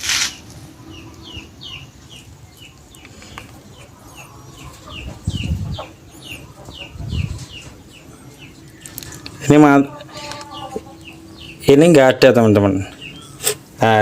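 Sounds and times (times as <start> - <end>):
chick peeping: 0.1 - 12.0.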